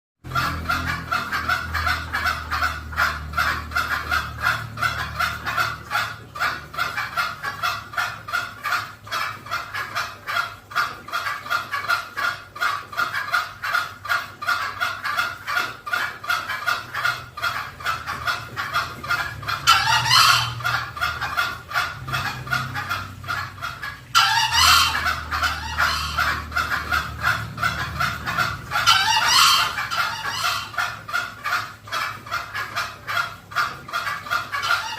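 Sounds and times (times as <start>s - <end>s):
junglefowl clucking: 0.2s - 34.9s.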